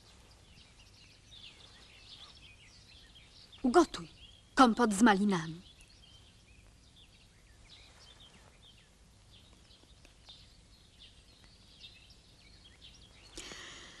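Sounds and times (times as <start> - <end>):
faint birdsong chirps: 0.0 - 14.0.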